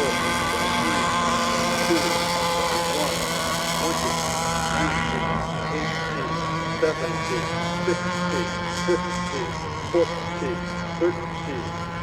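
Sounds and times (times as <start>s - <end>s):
model boat engines whining: 0.0s - 12.0s.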